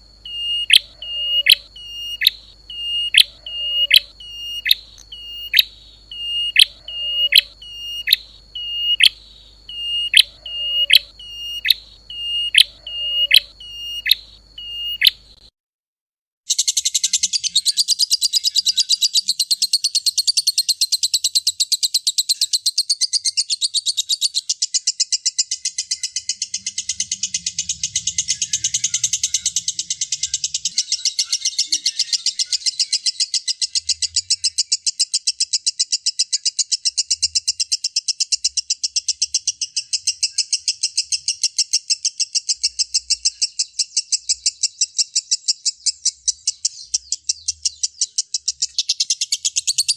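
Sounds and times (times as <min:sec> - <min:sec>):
bird chirping: 0:00.0 - 0:15.5, 0:16.5 - 0:49.9
bird trilling: 0:00.0 - 0:15.5, 0:16.5 - 0:49.9.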